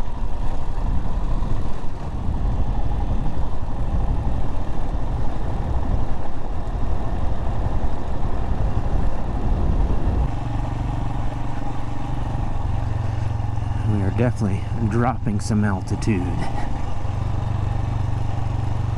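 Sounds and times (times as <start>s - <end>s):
motorcycle engine running: 0.0s - 18.9s
road and wind noise: 0.0s - 18.9s.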